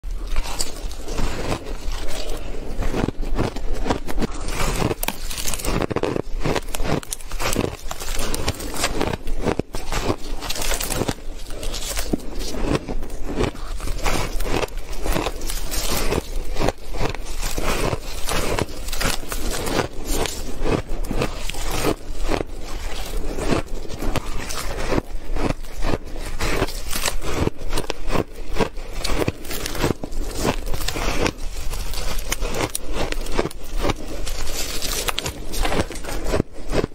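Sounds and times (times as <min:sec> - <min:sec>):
teeth crunching ice: 0:00.0 - 0:36.9.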